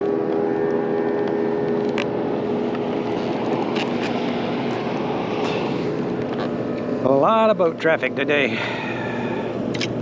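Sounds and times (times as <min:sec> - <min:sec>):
boat motor humming: 0:00.0 - 0:10.0
wind: 0:00.0 - 0:10.0.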